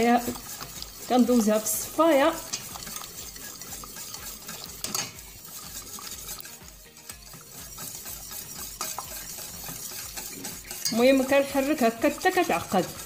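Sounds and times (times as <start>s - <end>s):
wire whisk scraping a metal pan: 0.0s - 13.0s.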